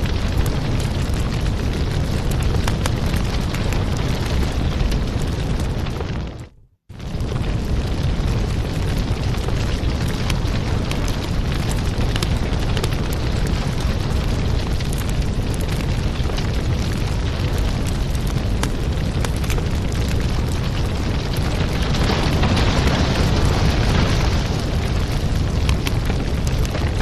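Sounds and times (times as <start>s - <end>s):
fireplace fire crackling: 0.0s - 27.0s.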